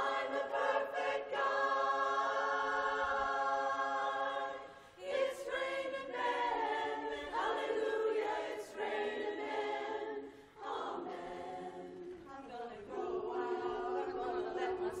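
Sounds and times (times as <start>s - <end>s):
women's chorus singing a cappella: 0.0s - 15.0s.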